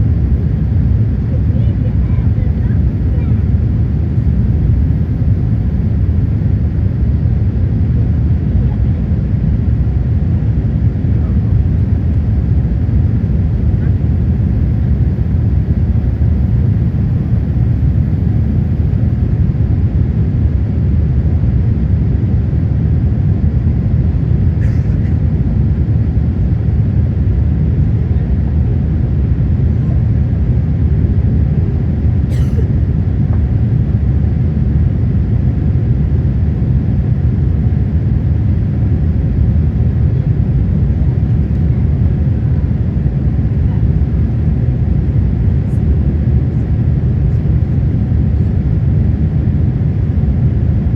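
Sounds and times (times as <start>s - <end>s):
airplane cabin rumble: 0.0s - 50.9s.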